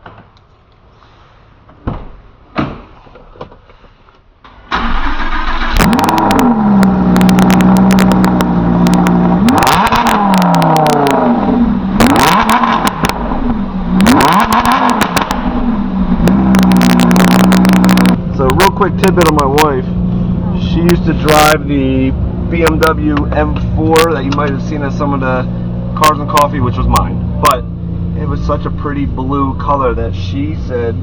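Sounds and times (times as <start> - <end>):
sports car engine revving: 4.8 - 31.0.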